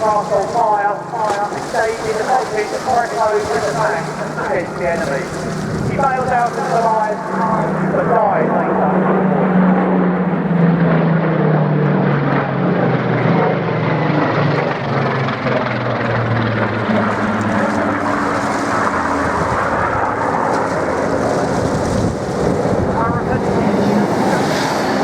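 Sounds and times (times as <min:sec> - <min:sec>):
propeller plane flying past: 0:00.0 - 0:25.0.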